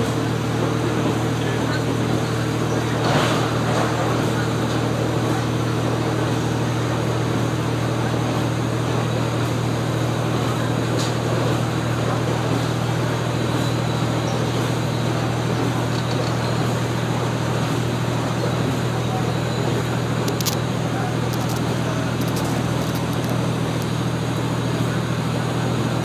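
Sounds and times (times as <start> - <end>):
diesel engine drone: 0.0 - 26.0
wheels rolling on rail: 0.0 - 26.0.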